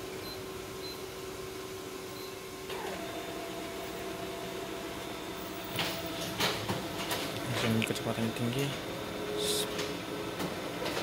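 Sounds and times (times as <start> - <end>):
copier humming: 0.0 - 11.0.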